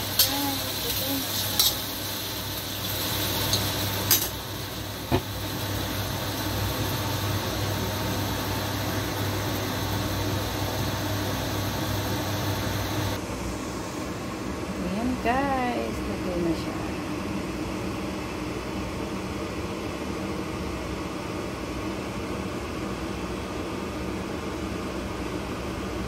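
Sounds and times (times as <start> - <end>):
fan-like hum and hiss: 0.0 - 26.0.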